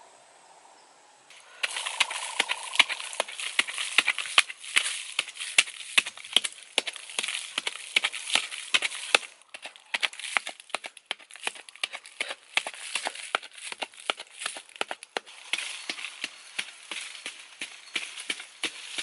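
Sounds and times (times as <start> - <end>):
digging stick striking dry soil: 1.5 - 19.0.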